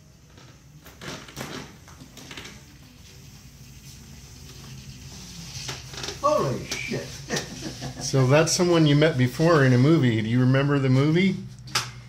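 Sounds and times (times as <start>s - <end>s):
wheelchair motor hum: 0.0s - 10.1s.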